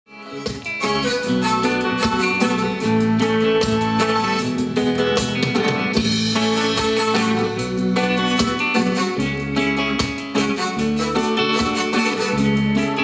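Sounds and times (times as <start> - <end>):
electric and acoustic guitars: 0.1 - 13.0
drum kit beat: 0.2 - 13.0.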